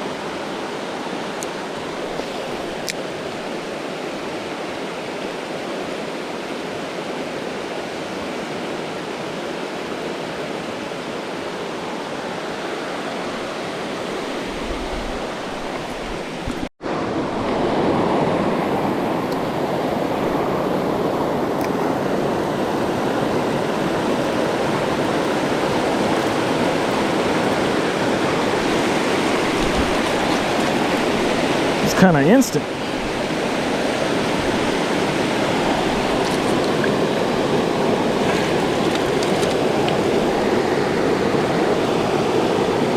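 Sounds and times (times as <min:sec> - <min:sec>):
creek water rushing: 0:00.0 - 0:42.9.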